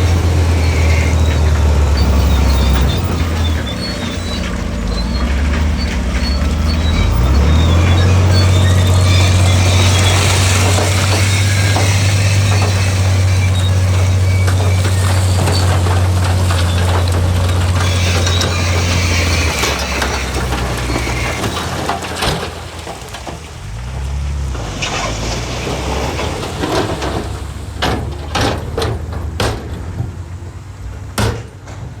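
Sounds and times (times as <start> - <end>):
diesel machinery droning: 0.0 - 32.0
metal knocks and clanks: 0.0 - 32.0.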